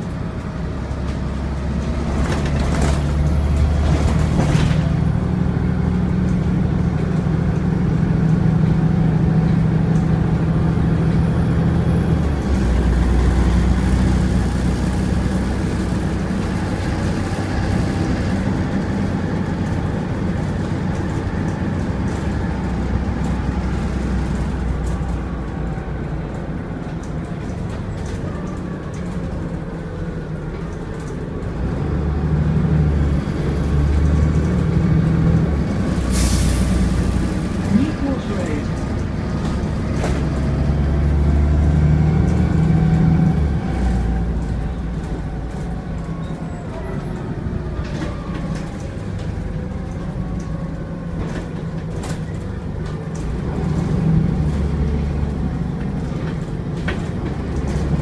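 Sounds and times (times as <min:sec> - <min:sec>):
bus diesel engine under load: 0:00.0 - 0:58.0.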